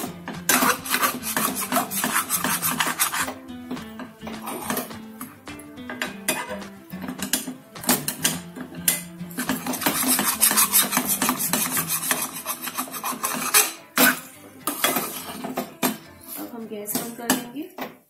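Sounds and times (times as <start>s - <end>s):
metal spatula scraping a pan: 0.0s - 17.4s.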